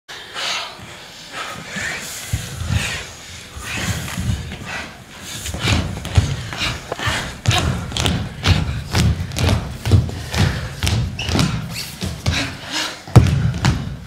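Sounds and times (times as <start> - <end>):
people breathing hard: 0.1 - 14.0.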